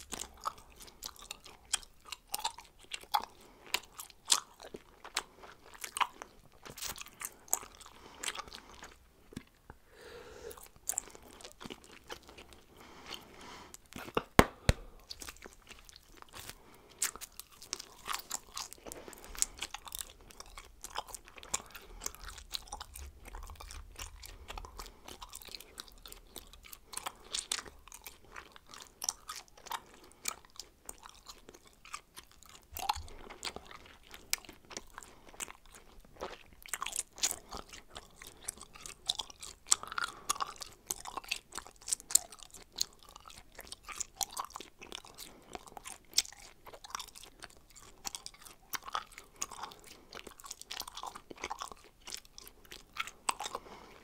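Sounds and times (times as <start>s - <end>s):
person chewing gum: 0.0s - 54.0s.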